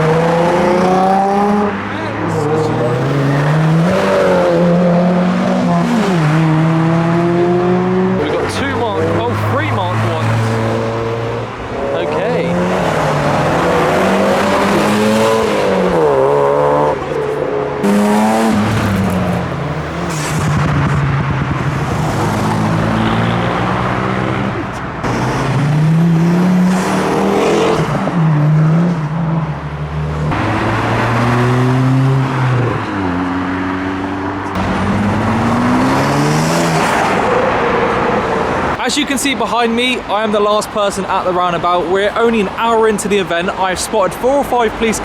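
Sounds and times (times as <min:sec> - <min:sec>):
cars accelerating hard: 0:00.0 - 0:45.0
engines revving: 0:00.0 - 0:45.0.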